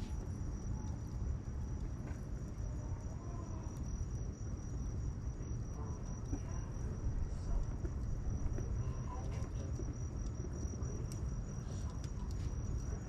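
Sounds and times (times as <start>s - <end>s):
bonfire burning: 0.0s - 13.0s.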